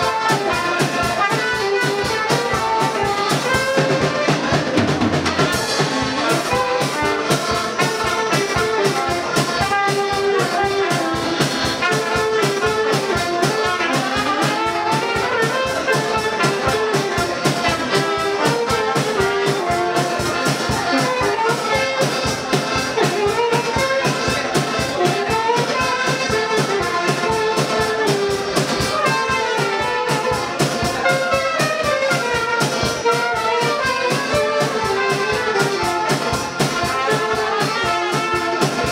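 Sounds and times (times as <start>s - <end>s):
accordions: 0.0s - 38.9s
drum kit beat: 0.0s - 38.9s
saxophone: 0.0s - 38.9s.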